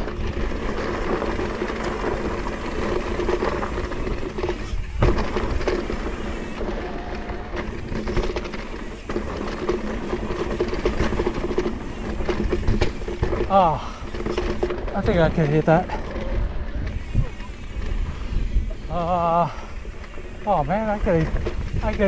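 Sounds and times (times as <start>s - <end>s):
bike rattling and clattering: 0.0s - 22.0s
bike tyres rolling over dirt: 0.0s - 22.0s.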